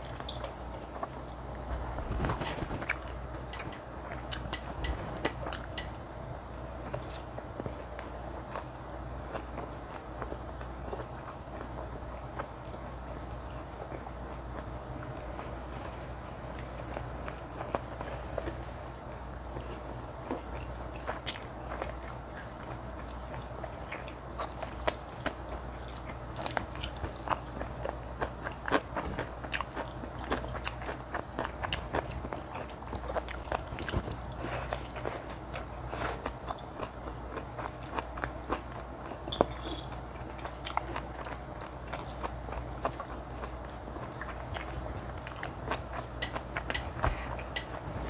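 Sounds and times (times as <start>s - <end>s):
chewing noodles: 0.0s - 47.9s.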